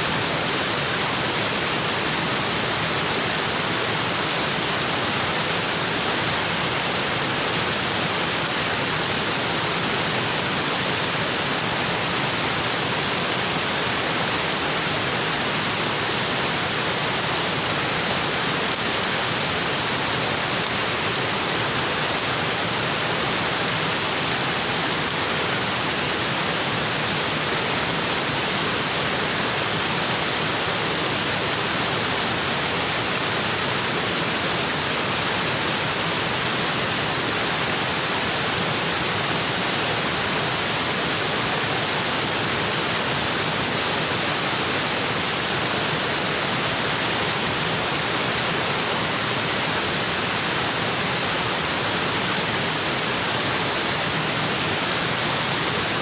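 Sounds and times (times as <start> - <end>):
waterfall onto rocks: 0.0 - 56.0.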